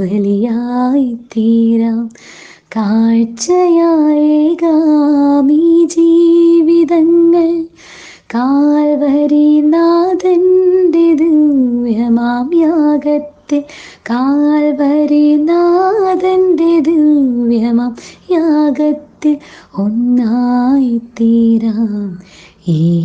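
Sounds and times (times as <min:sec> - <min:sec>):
woman singing a slow song: 0:00.0 - 0:23.0.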